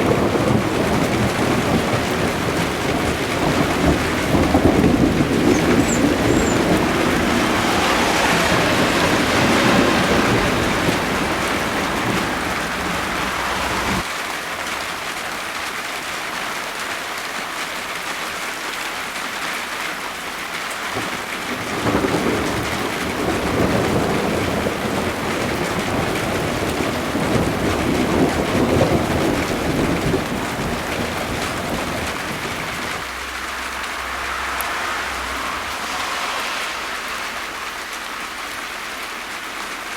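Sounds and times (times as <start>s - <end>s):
thunder rumbling: 0.0s - 14.1s, 21.0s - 39.0s
rain hissing: 0.0s - 39.9s.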